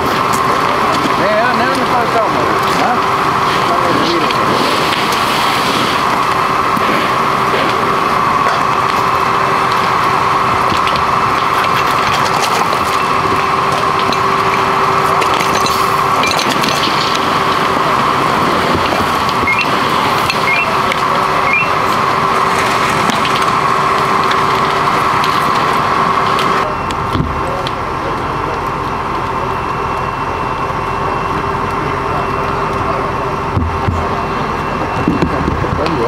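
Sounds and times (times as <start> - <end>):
fire crackling and snapping: 0.0 - 36.0
mechanical drone with hum: 0.0 - 36.0.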